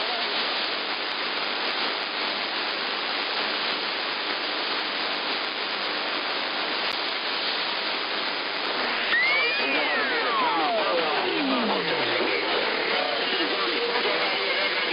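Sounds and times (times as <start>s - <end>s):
radio static hiss: 0.0s - 14.9s.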